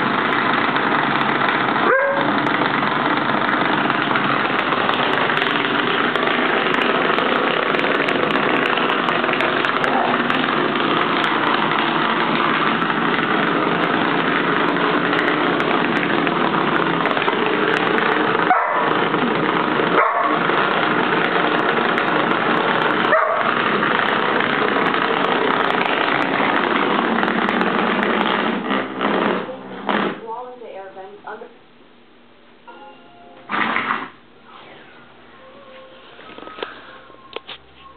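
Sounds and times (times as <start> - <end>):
vibrating massager buzzing on wooden floor: 0.0 - 37.9.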